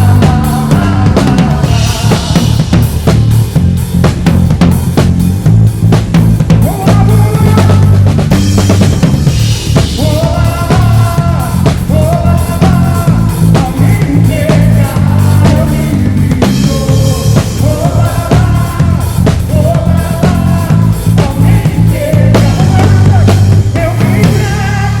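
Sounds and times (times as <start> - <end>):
bass line: 0.0 - 25.0
drum-kit beat: 0.0 - 25.0.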